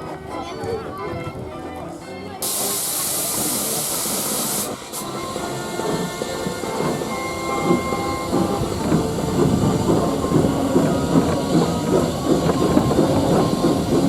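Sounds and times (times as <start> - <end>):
steam hissing: 2.4 - 14.0
train wheels clattering over rail joints: 2.4 - 14.0.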